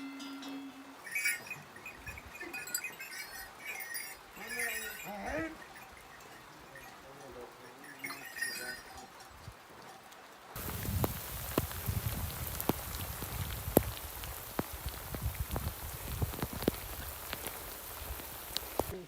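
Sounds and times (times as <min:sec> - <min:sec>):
steady rain hiss: 0:00.0 - 0:19.0
raindrops tapping close by: 0:01.0 - 0:19.0.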